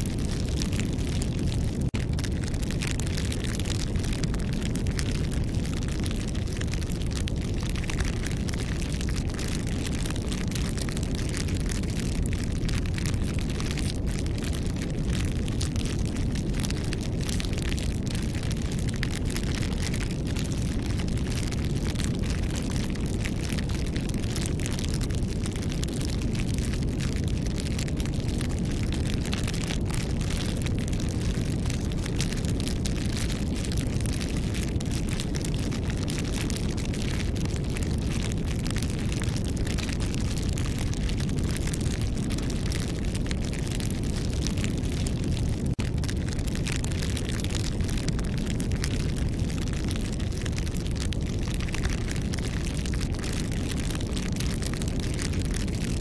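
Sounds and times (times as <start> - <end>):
campfire crackles and pops: 0.0 - 56.0
fire low rumble: 0.0 - 56.0.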